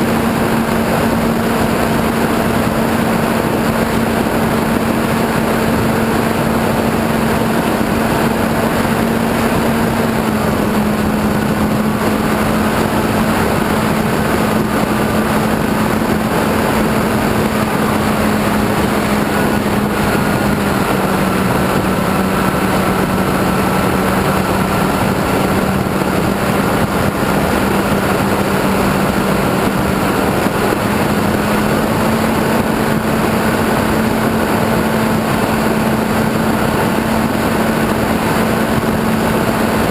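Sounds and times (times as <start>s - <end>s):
model airplane motor drone: 0.0s - 39.9s
wind rush: 0.0s - 39.9s.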